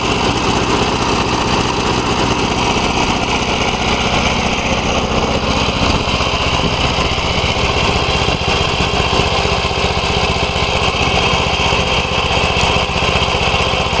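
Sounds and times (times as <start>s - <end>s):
garden tractor engine running: 0.0s - 14.0s.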